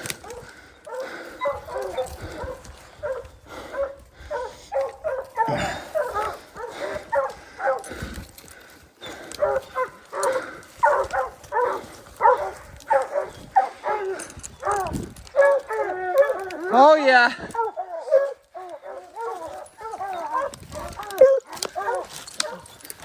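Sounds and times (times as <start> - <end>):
hounds barking and baying: 0.0 - 23.0.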